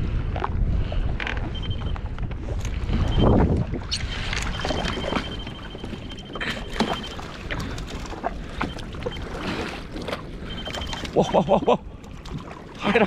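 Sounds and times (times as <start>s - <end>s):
wind buffeting microphone: 0.0s - 11.3s
water slapping against hull: 0.2s - 13.0s.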